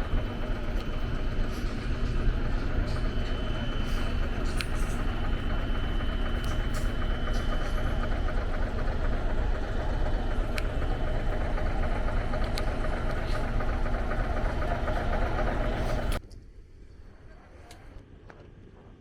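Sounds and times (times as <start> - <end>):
engines running at low revs: 0.0 - 19.0.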